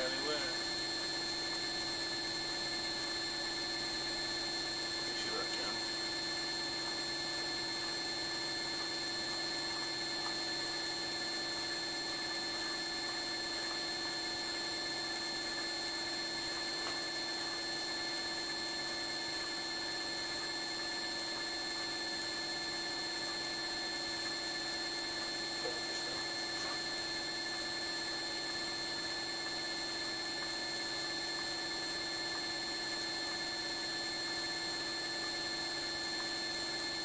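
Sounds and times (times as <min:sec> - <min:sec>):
milling machine motor whine: 0:00.0 - 0:37.0.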